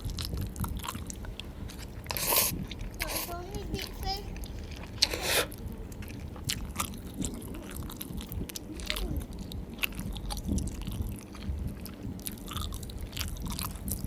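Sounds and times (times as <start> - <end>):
chewing and biting food: 0.0 - 14.0.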